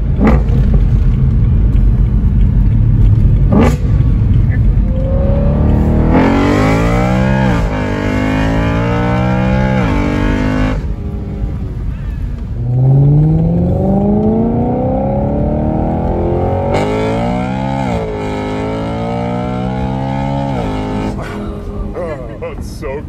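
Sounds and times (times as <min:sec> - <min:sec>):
car exhaust accelerating hard: 0:00.0 - 0:21.3.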